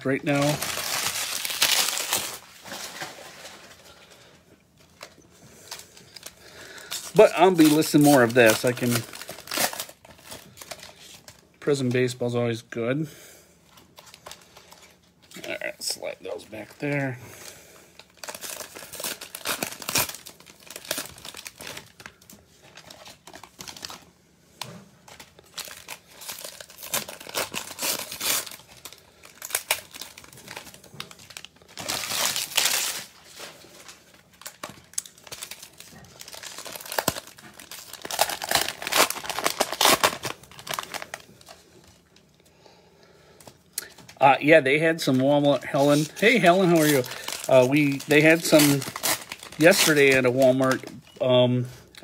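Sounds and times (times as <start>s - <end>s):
foil packs crinkling: 0.0s - 12.4s, 13.7s - 42.4s, 43.4s - 52.0s.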